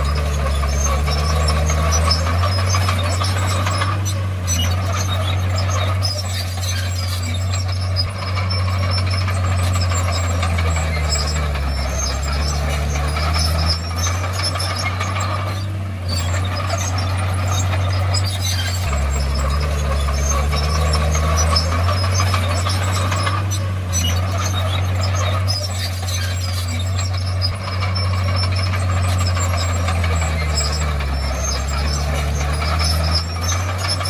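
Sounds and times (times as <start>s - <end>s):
bulldozer diesel engine droning: 0.0s - 34.0s
metallic track squeaks and clicks: 0.0s - 34.0s.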